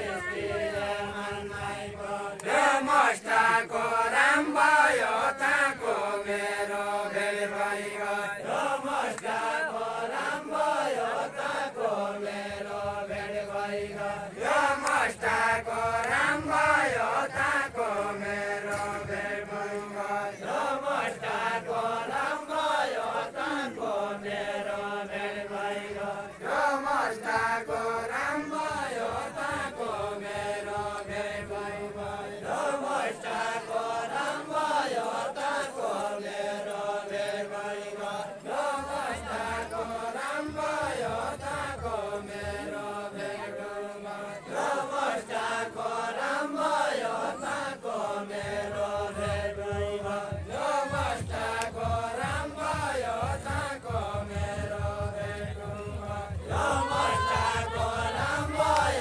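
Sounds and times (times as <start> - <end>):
group singing folk song in unison: 0.0 - 59.0.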